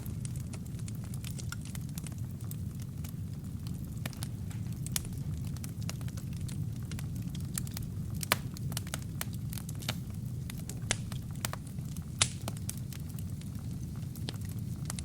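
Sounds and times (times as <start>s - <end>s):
burning logs snapping and popping: 0.0s - 15.0s
fire flames rumbling: 0.0s - 15.0s.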